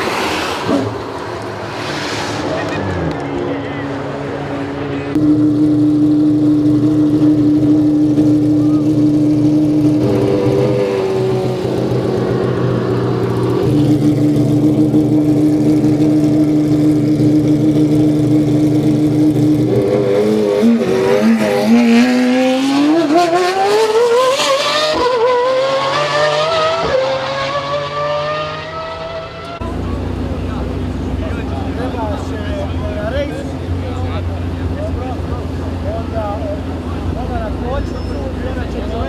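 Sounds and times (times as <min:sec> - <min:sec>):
sports car engine accelerating: 0:00.0 - 0:39.0.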